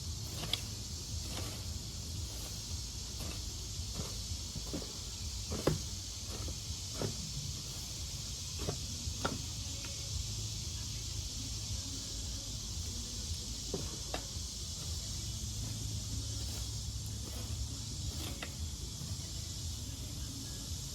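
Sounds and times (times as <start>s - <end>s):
high hiss: 0.0s - 20.9s
motor humming: 0.0s - 20.9s.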